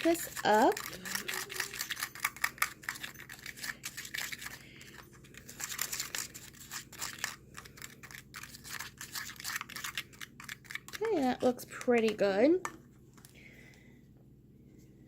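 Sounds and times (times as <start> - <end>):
spoon stirring dry powder: 0.0 - 12.9.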